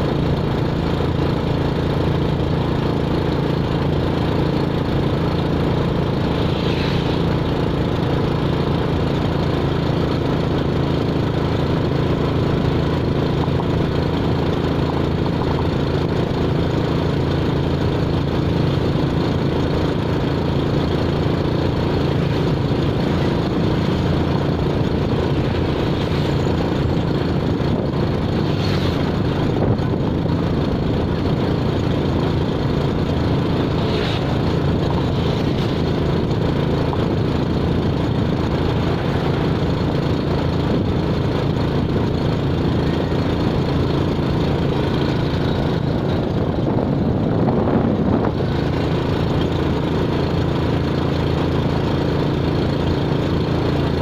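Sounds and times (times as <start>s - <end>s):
vehicle engine running steadily: 0.0s - 54.0s.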